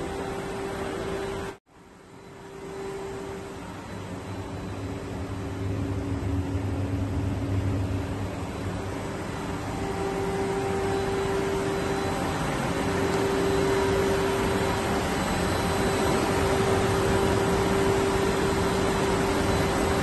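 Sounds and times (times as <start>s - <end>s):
industrial machinery hiss and hum: 0.0s - 20.0s
sustained mid-pitched tone: 2.3s - 20.0s.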